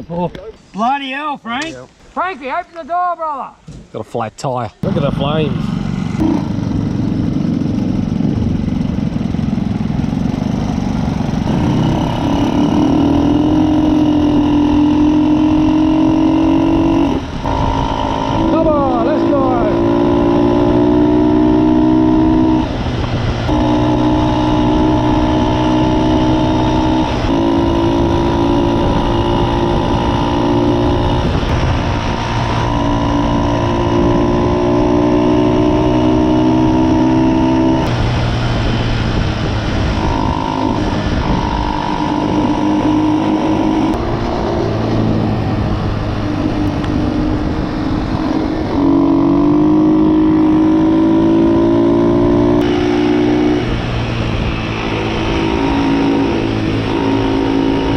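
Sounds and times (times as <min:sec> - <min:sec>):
motorbike engine revving: 0:04.8 - 0:57.9.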